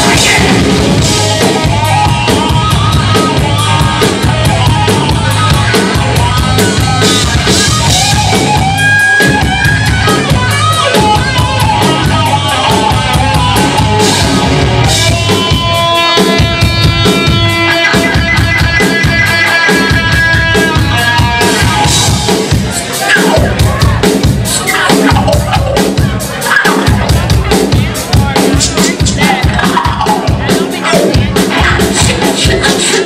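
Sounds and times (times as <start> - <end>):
bass guitar: 0.0 - 33.0
drum kit beat: 0.0 - 33.0
electric guitar: 0.0 - 33.0.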